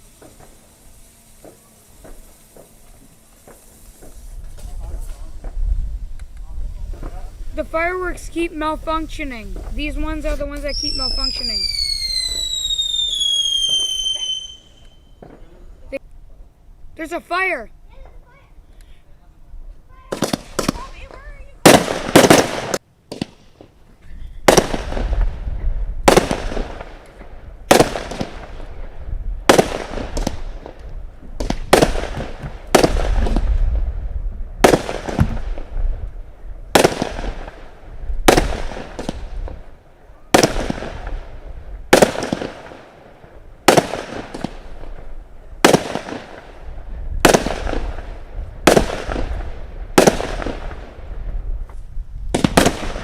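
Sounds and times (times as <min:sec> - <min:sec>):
firework bangs: 0:00.0 - 0:16.0, 0:19.8 - 0:23.8, 0:24.4 - 0:53.0.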